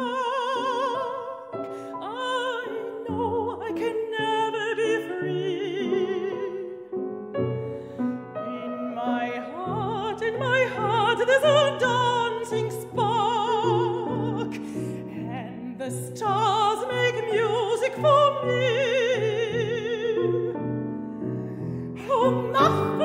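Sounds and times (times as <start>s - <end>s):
piano accompaniment: 0.0s - 23.0s
woman singing operatic art song: 0.0s - 23.0s.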